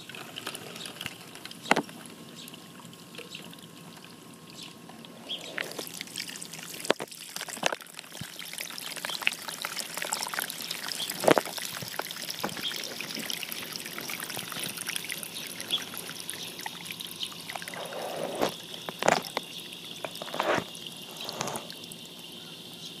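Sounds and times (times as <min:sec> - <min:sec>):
water trickling over wet sand: 0:00.0 - 0:23.0.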